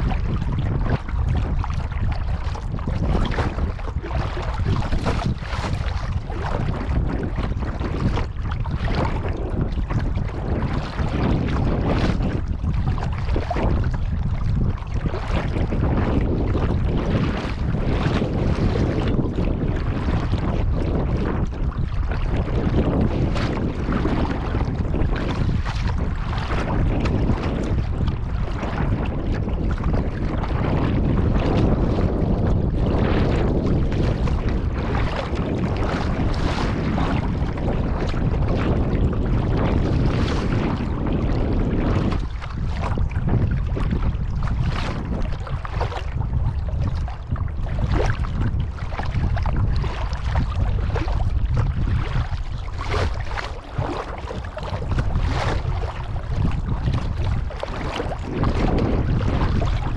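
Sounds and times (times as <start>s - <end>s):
water splashing around a kayak: 0.0s - 59.9s
wind rumble on microphone: 0.0s - 59.9s.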